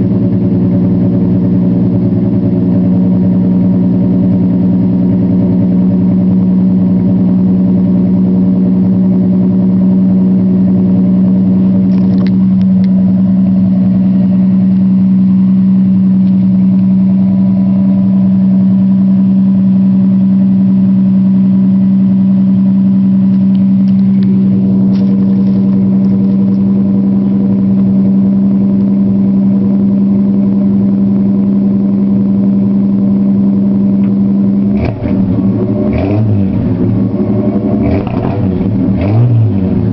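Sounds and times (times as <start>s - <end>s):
truck exhaust idling: 0.0s - 39.9s.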